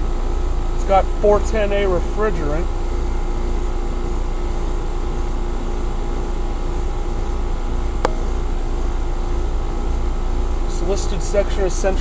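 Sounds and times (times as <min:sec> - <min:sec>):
condensing unit humming: 0:00.0 - 0:12.0.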